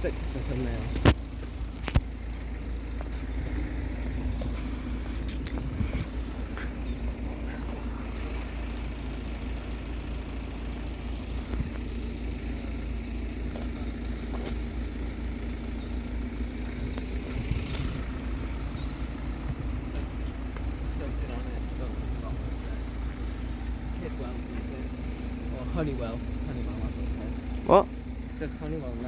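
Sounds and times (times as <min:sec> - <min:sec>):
road vehicle engines rumbling: 0:00.0 - 0:29.0
small birds chirping: 0:00.0 - 0:29.0.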